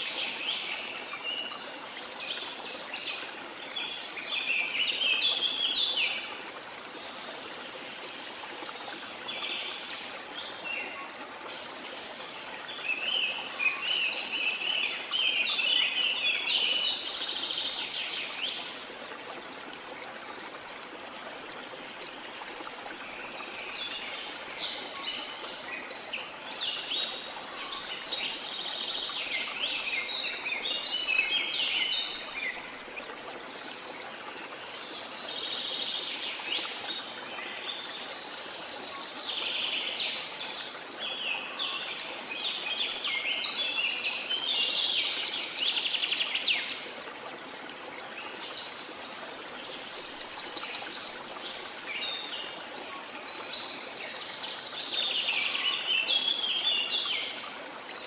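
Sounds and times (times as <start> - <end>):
rushing falling water: 0.0 - 58.0.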